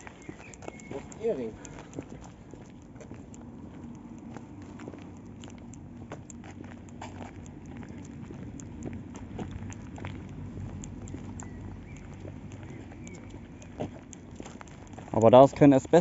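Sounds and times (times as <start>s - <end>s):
footsteps crunching on gritty ground: 0.0s - 16.0s
low steady hum: 0.0s - 16.0s.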